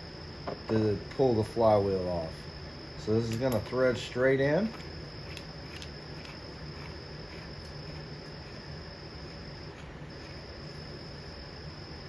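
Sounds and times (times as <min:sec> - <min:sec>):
high-pitched whine: 0:00.0 - 0:12.0
low steady hum: 0:00.0 - 0:12.0.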